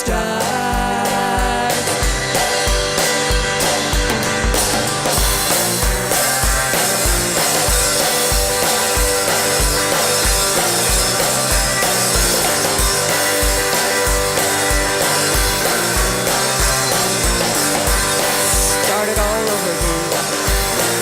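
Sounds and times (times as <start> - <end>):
live instrumental band music: 0.0 - 21.0.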